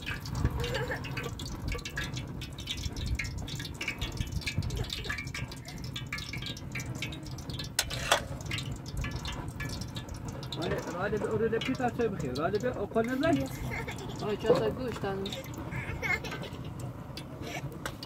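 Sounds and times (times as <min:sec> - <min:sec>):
utensil knocking metal pot: 0:00.0 - 0:15.6
hot oil crackling in a pan: 0:00.0 - 0:18.0.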